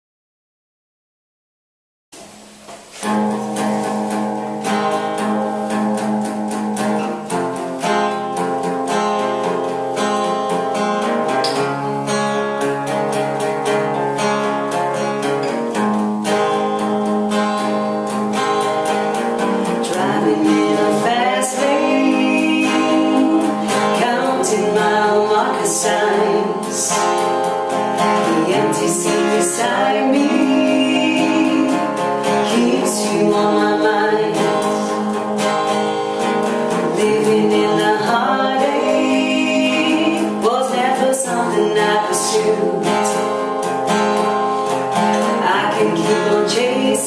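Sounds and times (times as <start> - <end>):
acoustic guitar chords: 2.2 - 47.0.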